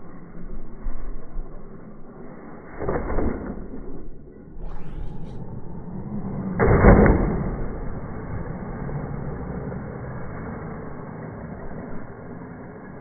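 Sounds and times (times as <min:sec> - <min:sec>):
low steady noise: 0:00.0 - 0:13.0.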